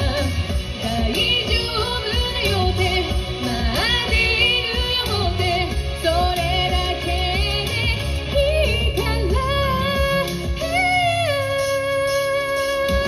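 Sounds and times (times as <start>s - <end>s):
bass line and beat: 0.0s - 13.0s
person singing: 0.0s - 13.0s.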